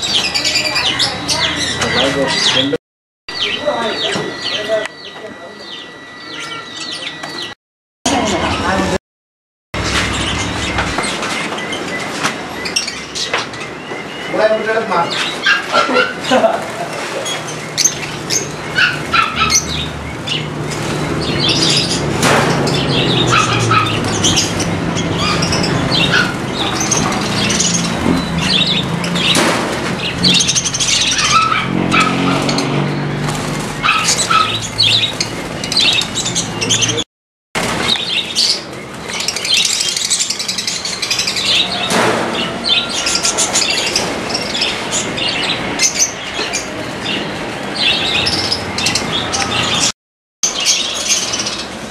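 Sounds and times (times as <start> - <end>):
small birds chirping: 0.0 - 9.0, 9.8 - 37.0, 37.8 - 51.9.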